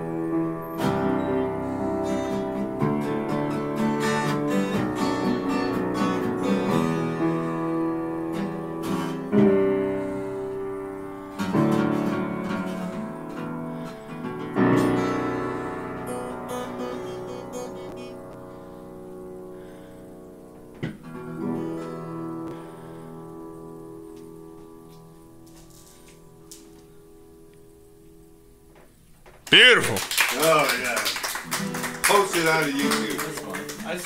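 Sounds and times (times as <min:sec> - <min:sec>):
acoustic guitar strummed: 0:00.0 - 0:28.0
upright piano: 0:00.0 - 0:28.4.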